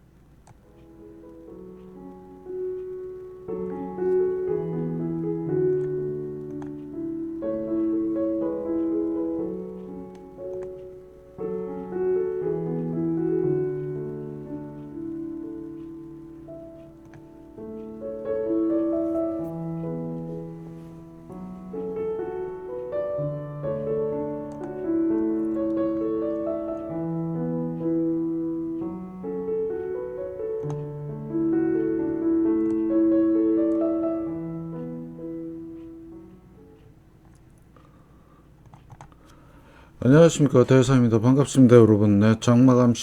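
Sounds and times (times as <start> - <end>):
slow piano chords: 0.0 - 43.0.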